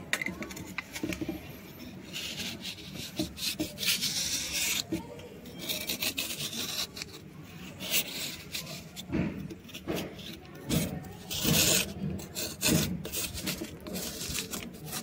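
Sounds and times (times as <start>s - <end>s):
knife blade scraping wet stone: 2.2s - 15.0s.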